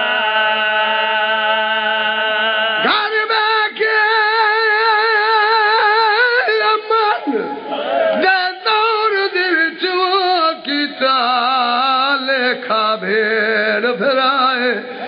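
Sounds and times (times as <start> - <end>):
man singing a lament: 0.0 - 15.0.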